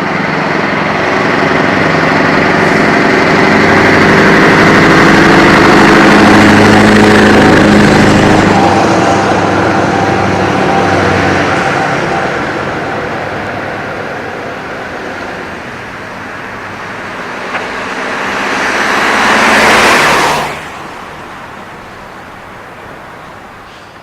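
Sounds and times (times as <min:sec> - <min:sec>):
truck exhaust crackling and popping: 0:00.0 - 0:24.0.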